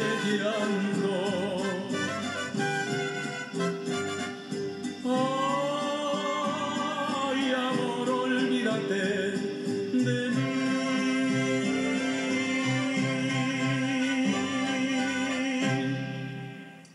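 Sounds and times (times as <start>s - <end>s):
ranchera accompaniment with bass pulse: 0.0s - 16.9s.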